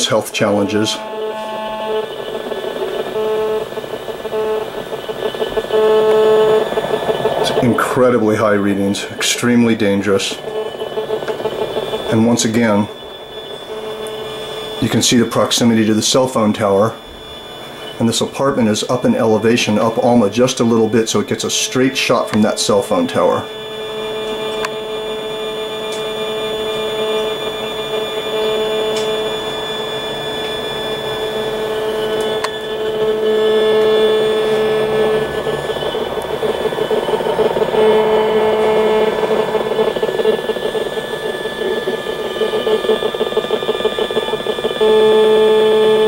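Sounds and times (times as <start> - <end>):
buzzing drone with fluttering chatter: 0.0 - 46.0.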